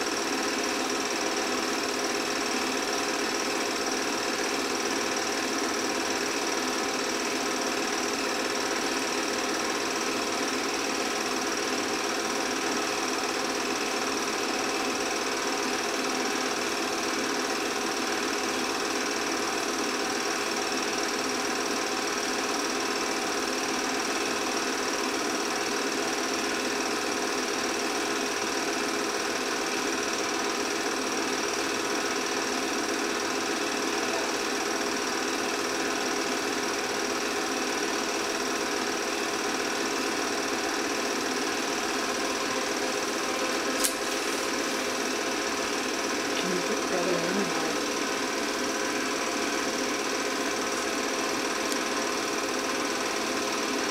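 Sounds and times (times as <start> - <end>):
film projector whirring: 0.0 - 53.9.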